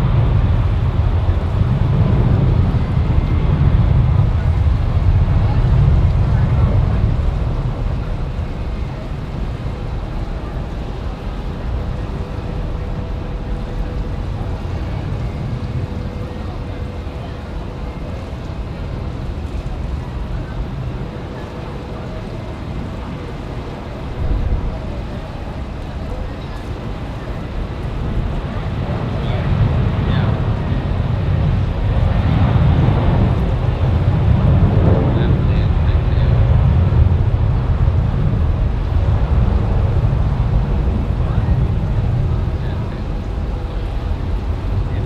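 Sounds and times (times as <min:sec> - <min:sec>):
faint engine whine: 0:00.0 - 0:45.0
jet airliner engines rumbling: 0:00.0 - 0:45.0
wind buffeting microphone: 0:00.0 - 0:45.0.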